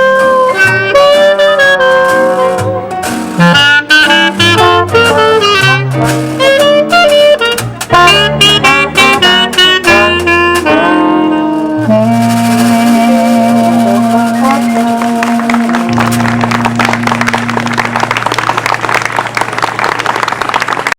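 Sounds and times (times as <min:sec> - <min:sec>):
washboard rhythm: 0:00.0 - 0:18.7
horns playing fast melody: 0:00.0 - 0:20.5
jazz band playing: 0:00.0 - 0:20.5.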